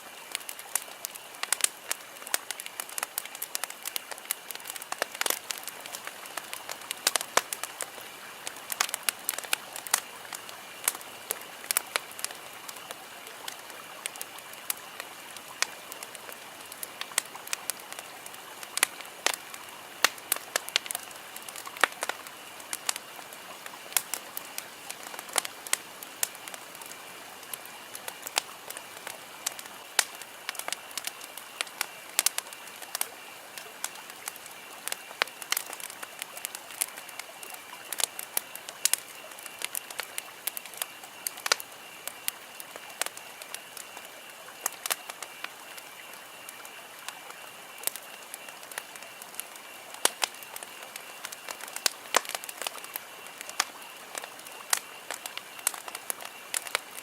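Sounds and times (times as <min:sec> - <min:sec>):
campfire crackling and popping: 0:00.0 - 0:57.0
soft steady hiss: 0:00.0 - 0:57.0.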